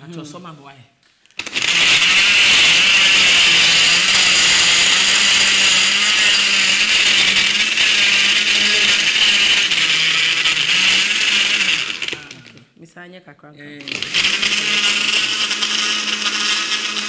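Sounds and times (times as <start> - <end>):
electric blender running: 1.4 - 12.6, 13.8 - 17.0.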